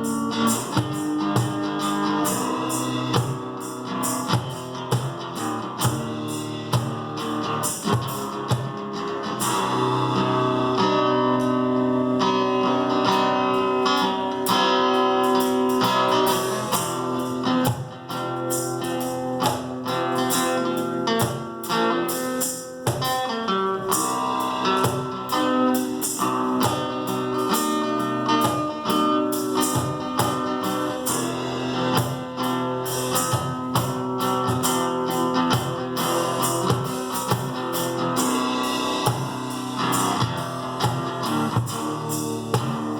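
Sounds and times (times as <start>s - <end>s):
percussion hits: 0.0s - 10.4s, 14.5s - 42.9s
strummed acoustic guitar: 0.0s - 42.9s.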